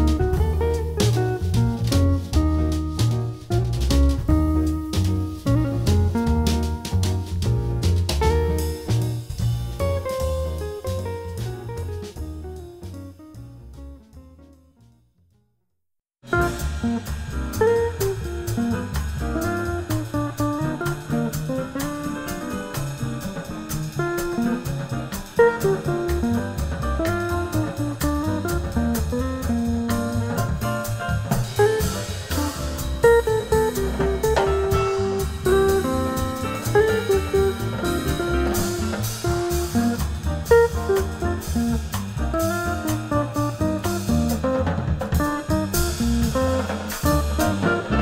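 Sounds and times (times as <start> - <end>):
drums with steady cymbal beat: 0.0 - 13.1, 16.2 - 48.0
upright bass: 0.0 - 15.3, 16.2 - 48.0
jazz guitar: 0.0 - 15.4, 16.2 - 48.0.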